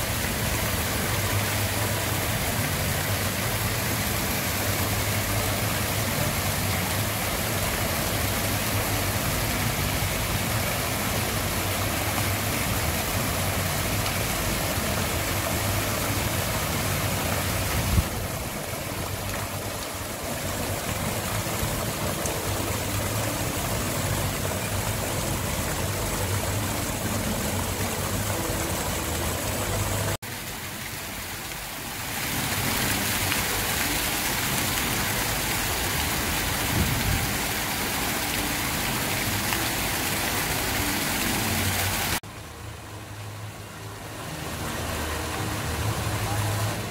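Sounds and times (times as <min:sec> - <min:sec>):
fountain water splashing: 0:00.0 - 0:46.9.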